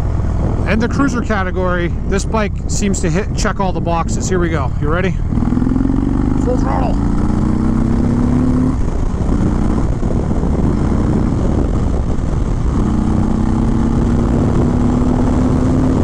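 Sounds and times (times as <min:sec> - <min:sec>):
motorcycle engine accelerating: 0:00.0 - 0:16.0
wind rush: 0:00.0 - 0:16.0.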